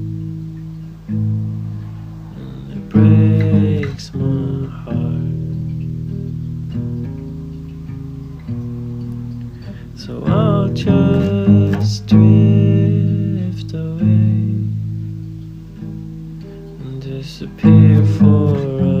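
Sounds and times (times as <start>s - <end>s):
acoustic guitar plucking: 0.0s - 19.0s.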